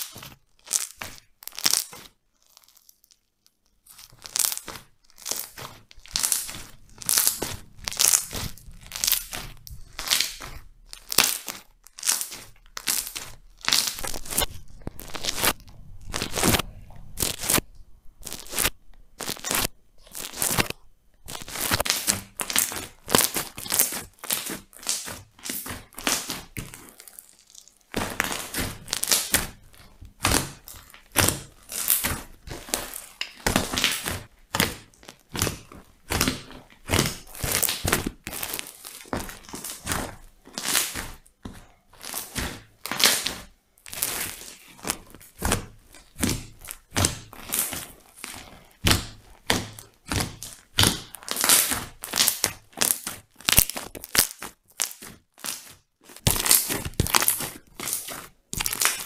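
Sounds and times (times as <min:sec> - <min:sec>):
slime popping and crackling: 0:00.0 - 0:59.0.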